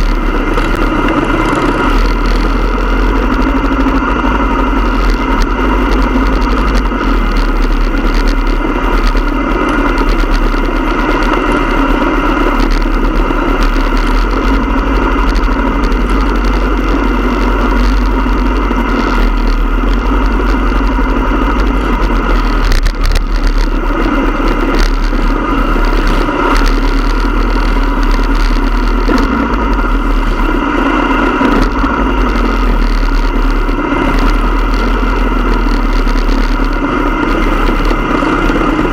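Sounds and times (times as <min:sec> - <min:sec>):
motorcycle engine drone: 0:00.0 - 0:38.9.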